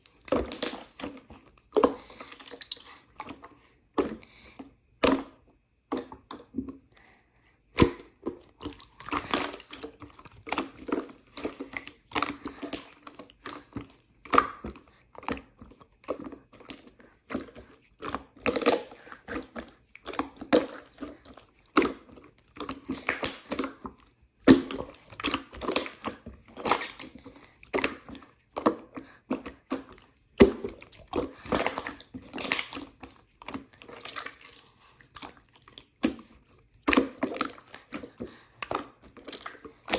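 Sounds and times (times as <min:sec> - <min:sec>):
slime squishing: 0:00.0 - 0:07.0, 0:07.7 - 0:39.9.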